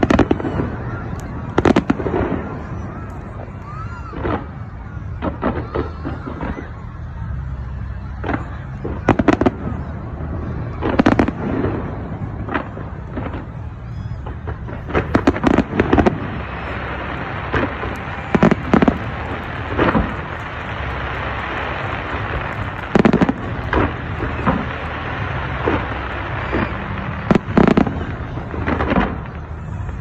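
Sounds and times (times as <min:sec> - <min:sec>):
low rumble and crackle: 0:00.0 - 0:30.0.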